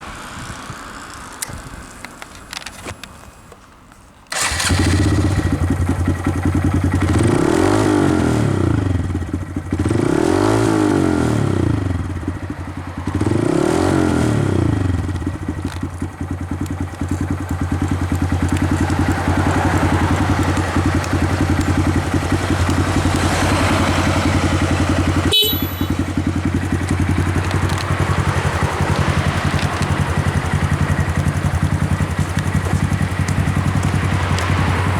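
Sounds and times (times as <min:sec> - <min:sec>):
motorcycle engine revving and idling: 0:04.3 - 0:34.9.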